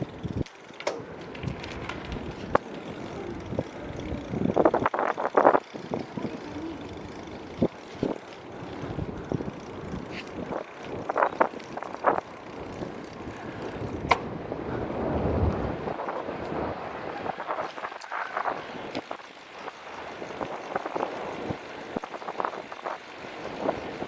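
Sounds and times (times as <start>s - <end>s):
wind rumble on microphone: 1.2s - 24.0s.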